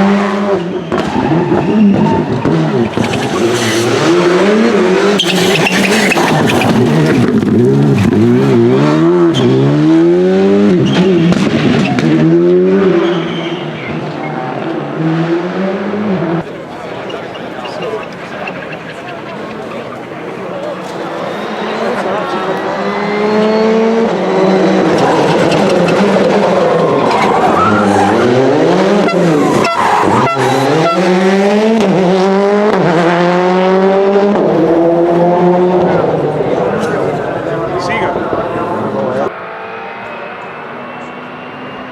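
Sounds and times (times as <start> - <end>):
car engine revving hard: 0.0 - 16.5, 21.2 - 41.9.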